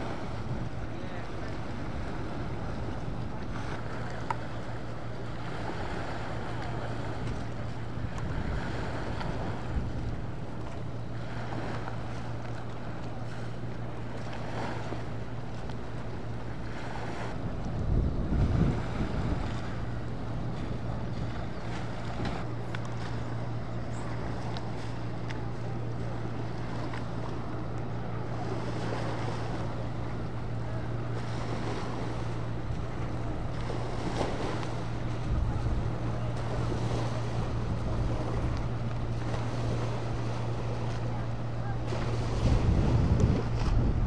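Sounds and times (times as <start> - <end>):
boat engine drone: 0.0 - 44.0
water rushing from hull: 0.0 - 44.0.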